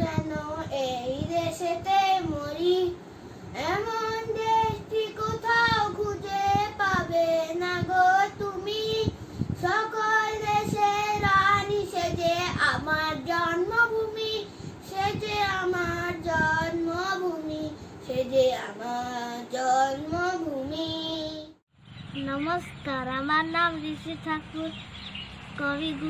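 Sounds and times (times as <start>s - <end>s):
boy singing unaccompanied: 0.0s - 26.0s.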